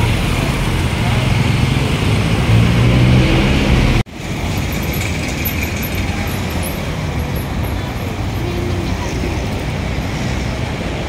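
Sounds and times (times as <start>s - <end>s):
city traffic noise: 0.0s - 11.0s
motorcycles and cars passing: 0.0s - 11.0s.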